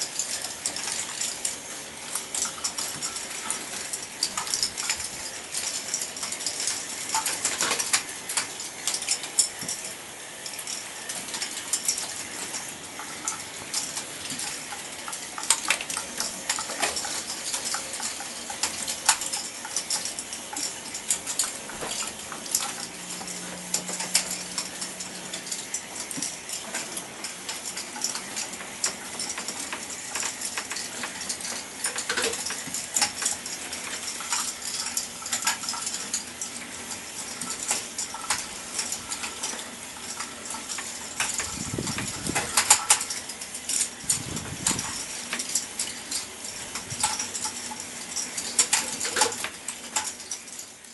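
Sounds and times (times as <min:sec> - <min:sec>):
plastic balls clicking on tracks: 0:00.0 - 0:50.9.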